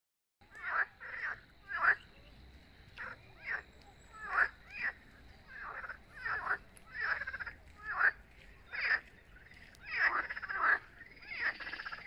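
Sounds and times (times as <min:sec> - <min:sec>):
frogs croaking: 0:00.4 - 0:12.0.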